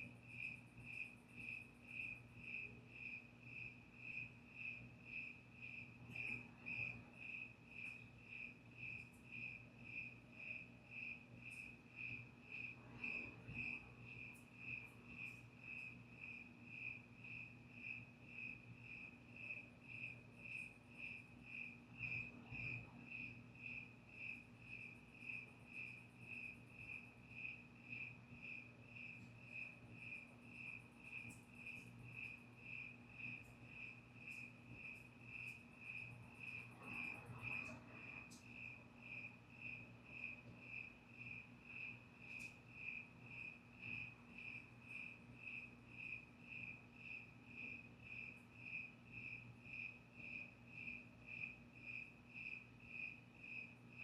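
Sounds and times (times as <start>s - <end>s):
cricket chirping: 0.0s - 54.0s
faint low hum: 0.0s - 54.0s.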